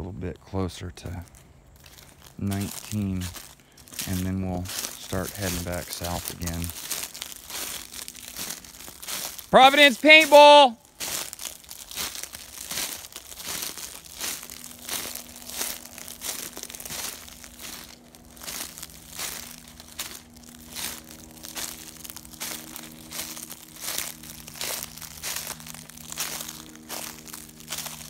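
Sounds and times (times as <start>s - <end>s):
faint low hum: 0.0s - 9.6s, 10.8s - 28.0s
footsteps crunching dry leaves: 0.8s - 28.0s.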